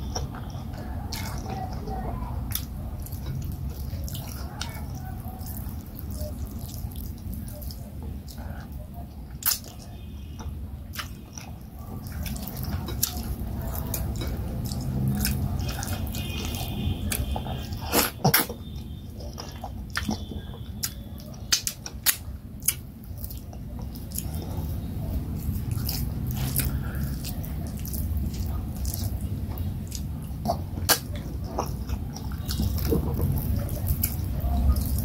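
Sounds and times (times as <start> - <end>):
chewing and wet mouth sounds: 0.0 - 35.0.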